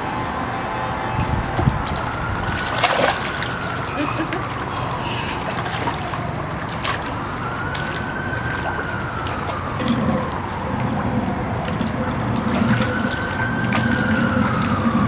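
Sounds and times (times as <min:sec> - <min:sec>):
pool water splashing: 0:00.3 - 0:15.0.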